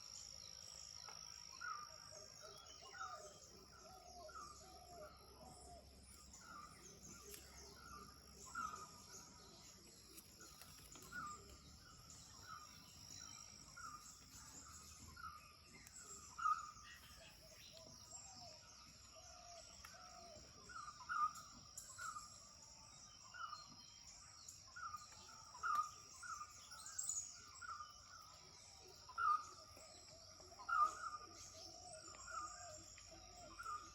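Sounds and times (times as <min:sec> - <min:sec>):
bird singing lower notes: 0:00.0 - 0:33.9.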